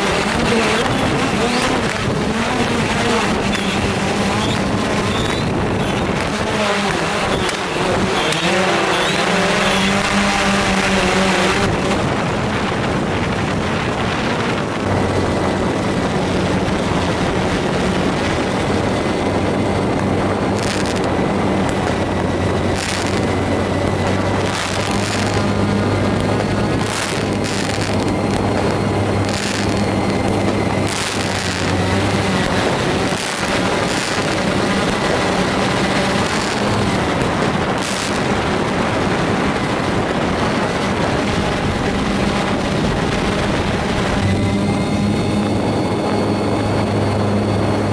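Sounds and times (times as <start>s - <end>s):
drone propellers humming: 0.0s - 47.9s.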